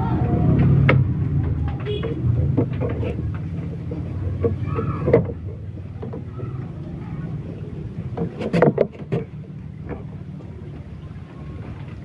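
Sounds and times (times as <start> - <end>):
low mechanical hum: 0.0 - 12.0
clicks and rustles: 0.2 - 12.0.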